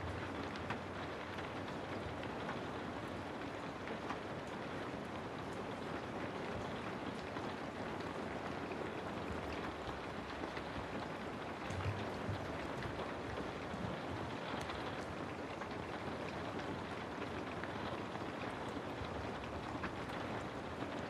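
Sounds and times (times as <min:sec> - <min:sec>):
rain drop ticks: 0:00.1 - 0:21.0.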